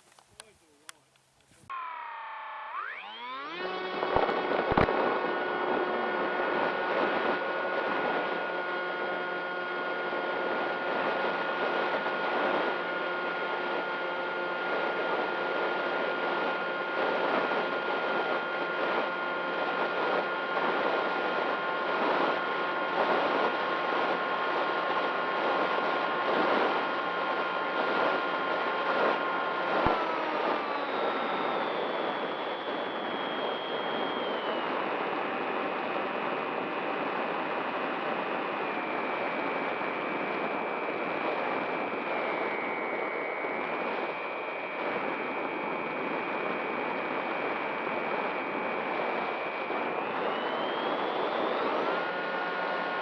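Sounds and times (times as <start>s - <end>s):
electric motor whine: 0.0s - 53.0s.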